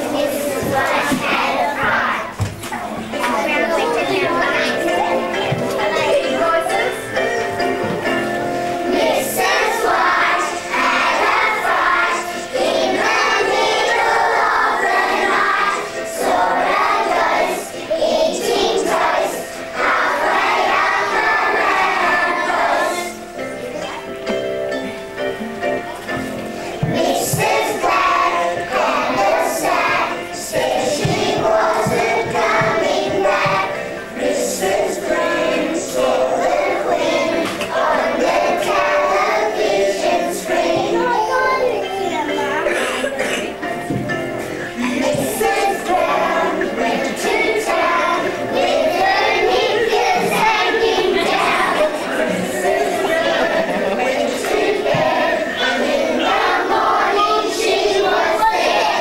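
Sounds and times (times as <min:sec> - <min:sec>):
children singing together: 0:00.0 - 0:59.0.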